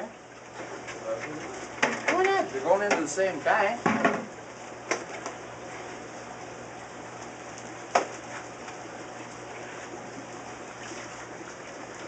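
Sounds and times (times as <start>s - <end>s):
aquarium water trickling and bubbling: 0.0s - 12.0s.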